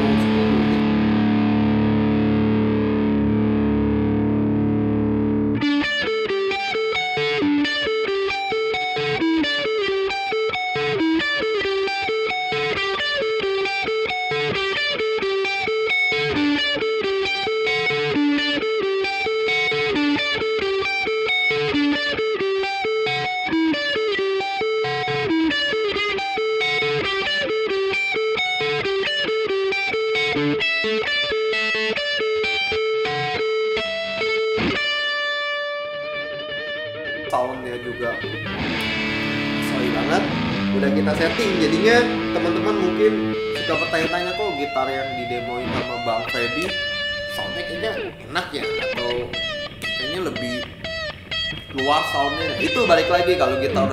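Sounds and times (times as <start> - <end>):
distorted guitar chord: 0.0 - 53.9
electric guitar picked notes: 0.0 - 53.9.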